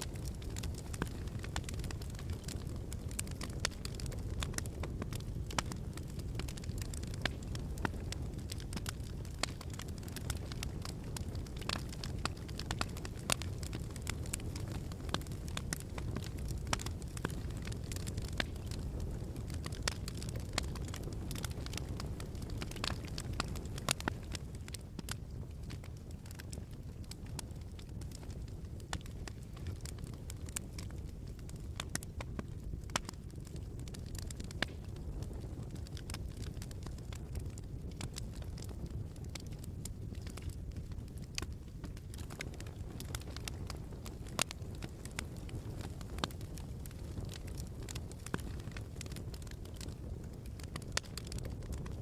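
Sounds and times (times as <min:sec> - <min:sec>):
fire crackling and popping: 0:00.0 - 0:52.0
low rumble of flames: 0:00.0 - 0:52.0.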